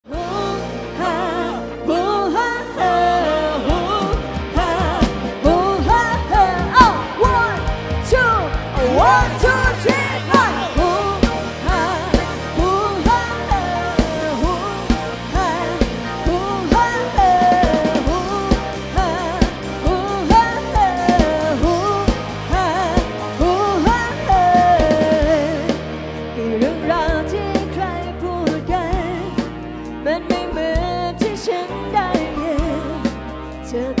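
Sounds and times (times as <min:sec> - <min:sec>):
electric guitars: 0:00.0 - 0:34.0
woman singing: 0:00.0 - 0:34.0
drum kit beat: 0:03.6 - 0:31.6.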